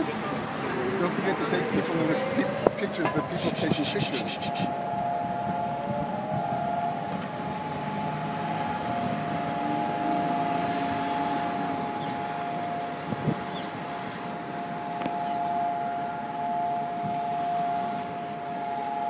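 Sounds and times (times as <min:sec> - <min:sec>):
low rumble of traffic: 0:00.0 - 0:19.0
siren long steady tone: 0:01.4 - 0:19.0.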